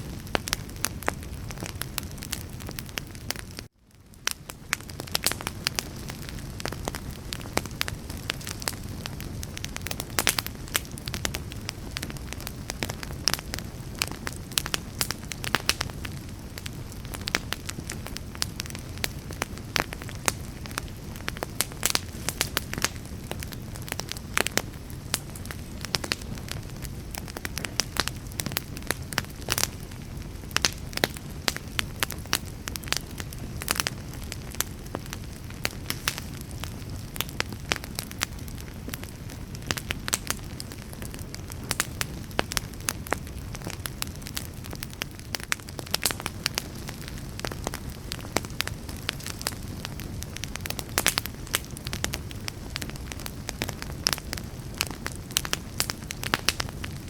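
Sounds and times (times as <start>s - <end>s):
burning wood popping and crackling: 0.0s - 57.0s
low rumble of flames: 0.0s - 57.0s.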